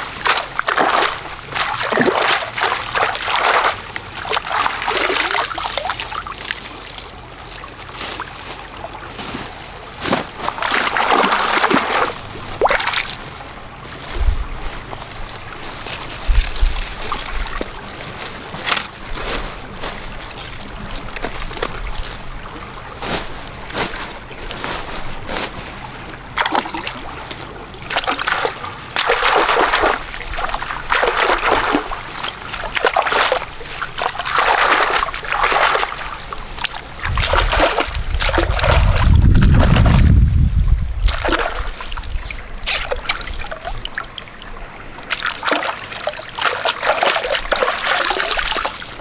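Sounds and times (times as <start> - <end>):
stalks swishing in water: 0.0 - 40.1, 41.0 - 44.2, 45.1 - 49.0
water splashing and sloshing: 0.0 - 49.0.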